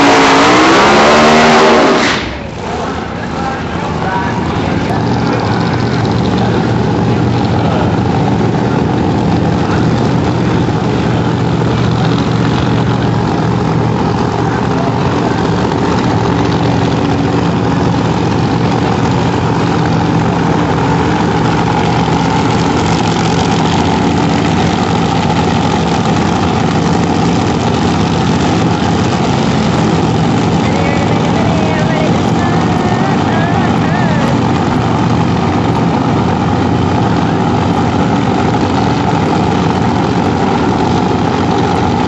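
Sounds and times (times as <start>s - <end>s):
drag racing engine idling: 0.0s - 42.0s.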